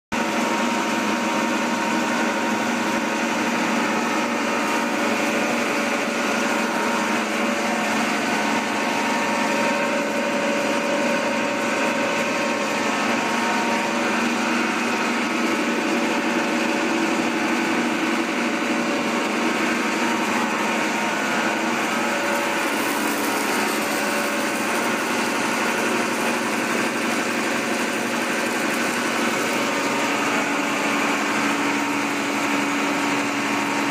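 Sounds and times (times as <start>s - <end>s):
extruder mechanical hum: 0.2s - 33.9s.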